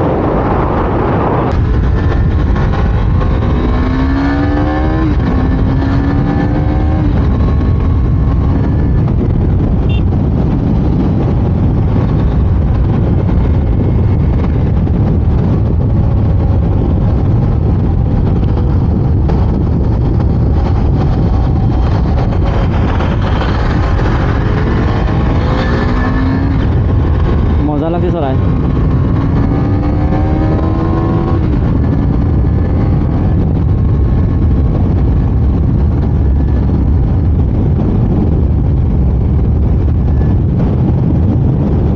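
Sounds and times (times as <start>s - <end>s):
motorcycle engine accelerating: 0.0s - 41.9s
wind rush on microphone: 0.0s - 41.9s.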